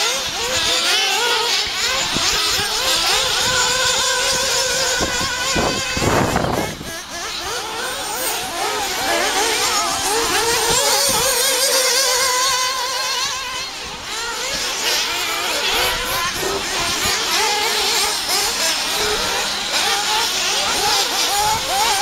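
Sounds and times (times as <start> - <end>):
small engines buzzing and revving: 0.0 - 22.0.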